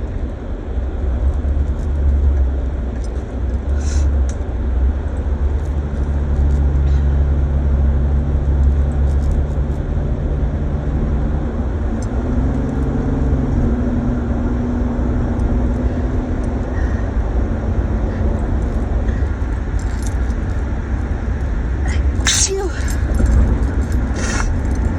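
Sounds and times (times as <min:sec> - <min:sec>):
car road and engine rumble: 0:00.0 - 0:24.9.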